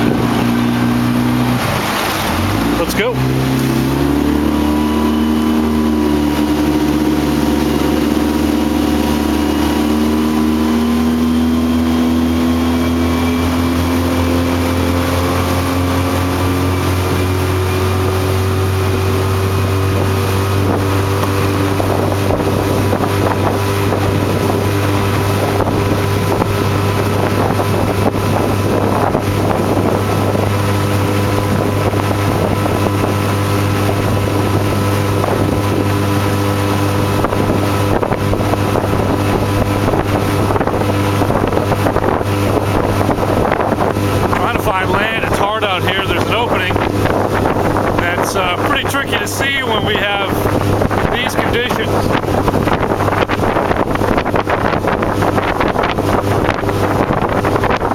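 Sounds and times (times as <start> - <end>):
motorboat engine running: 0.0 - 57.9
wind and water noise: 0.0 - 57.9.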